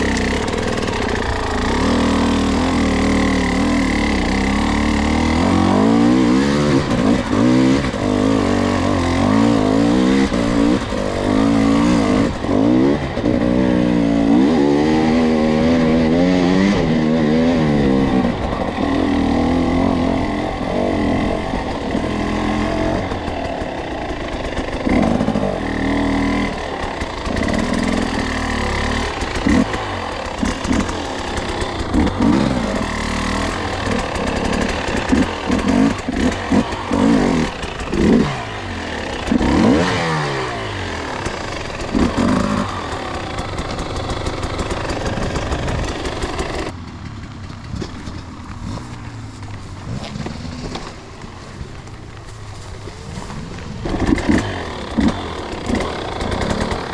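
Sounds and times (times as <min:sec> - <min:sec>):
dirt bike engine: 0:00.0 - 0:56.9.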